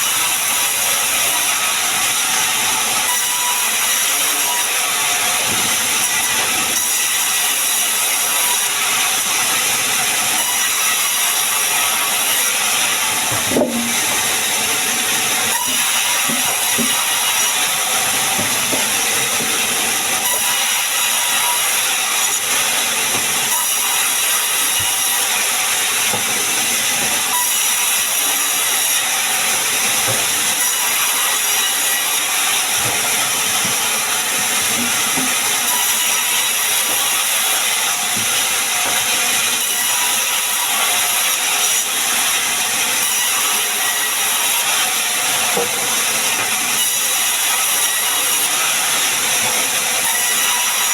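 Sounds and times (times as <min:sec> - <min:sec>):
sawmill saw cutting wood: 0:00.0 - 0:50.9.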